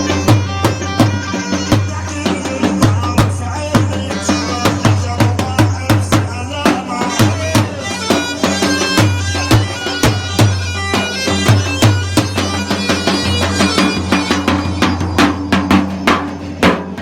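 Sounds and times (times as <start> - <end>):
reedy piping melody: 0.0 - 17.0
steady drum beat: 0.0 - 17.0.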